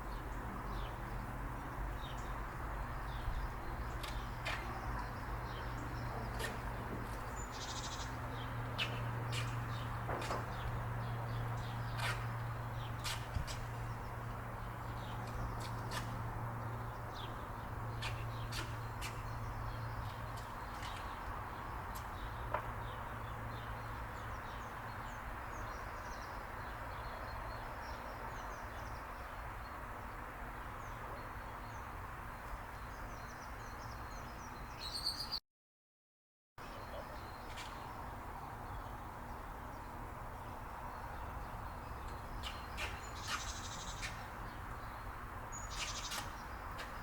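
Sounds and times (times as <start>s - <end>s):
small birds chirping: 0.0s - 35.4s, 36.6s - 47.0s.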